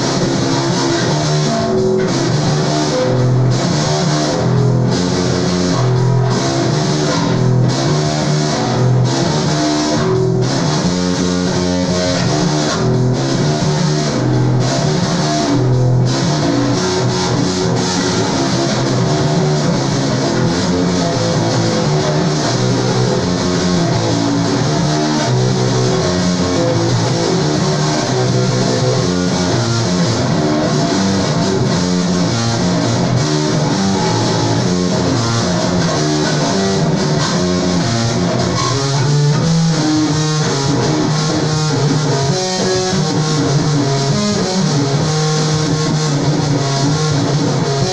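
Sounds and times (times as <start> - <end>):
rock music on bass and guitar: 0.0 - 47.9.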